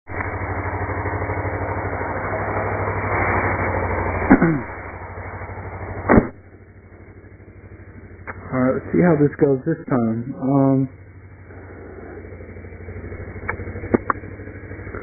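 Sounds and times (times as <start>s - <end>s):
motorcycle engine idling: 0.1s - 15.0s.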